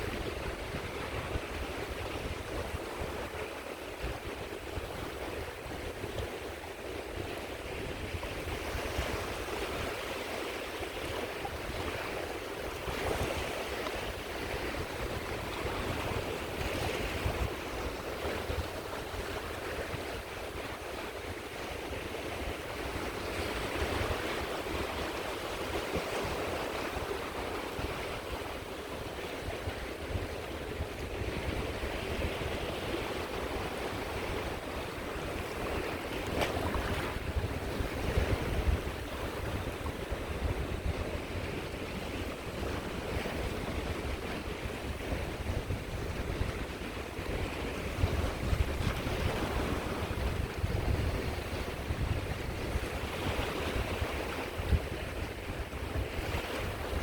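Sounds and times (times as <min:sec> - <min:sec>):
sea waves breaking on beach: 0:00.0 - 0:57.0
wind buffeting microphone: 0:00.0 - 0:57.0.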